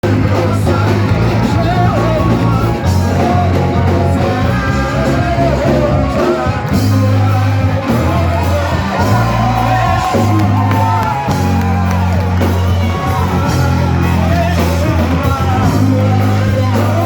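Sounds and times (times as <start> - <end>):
steady bass line: 0.0 - 17.0
worship band music with singing: 0.0 - 17.0.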